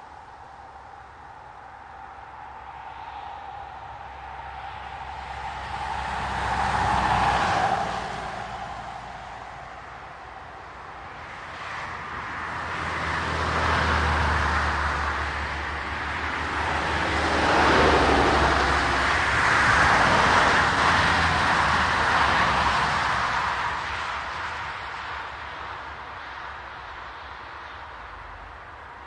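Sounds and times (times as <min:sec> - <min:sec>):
cars passing on asphalt road: 0:00.0 - 0:29.0.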